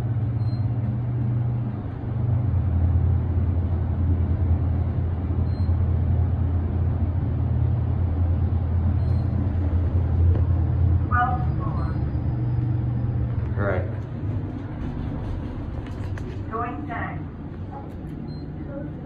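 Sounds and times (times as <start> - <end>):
elevator travelling low rumble: 0.0 - 19.0.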